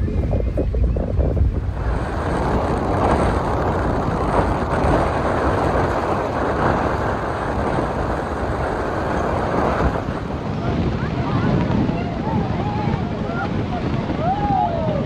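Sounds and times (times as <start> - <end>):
boat engine running: 0.0 - 14.2
choppy water rushing: 0.0 - 15.0
wind buffeting microphone: 0.0 - 15.0.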